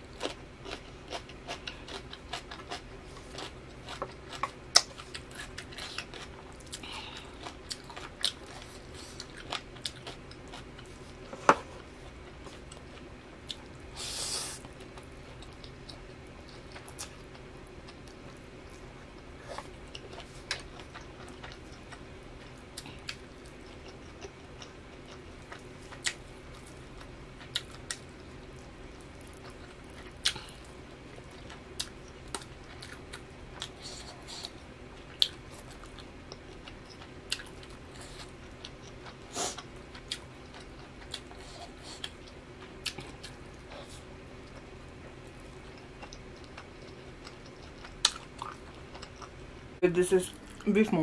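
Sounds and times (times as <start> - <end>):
person chewing food: 0.0 - 49.7
low steady hum: 0.0 - 51.0.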